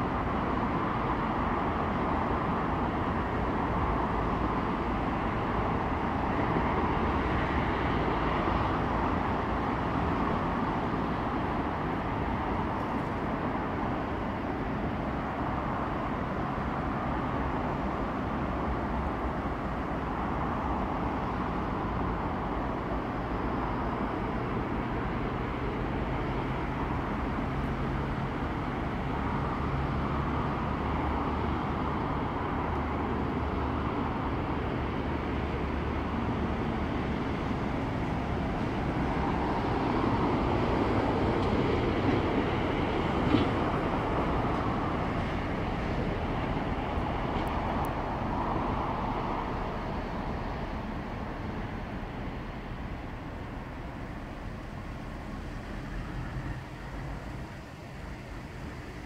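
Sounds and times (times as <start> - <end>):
distant diesel locomotive engine: 0.0 - 59.0
rail yard noise: 0.0 - 59.0.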